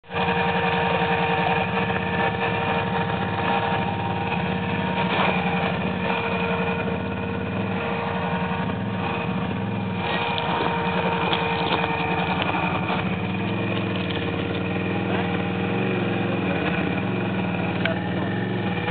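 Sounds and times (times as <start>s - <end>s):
quad engine running at low revs: 0.0s - 18.9s.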